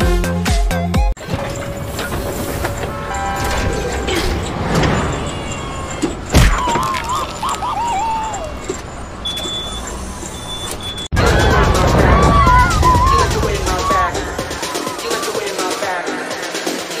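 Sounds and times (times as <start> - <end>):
street traffic: 1.2 - 17.0.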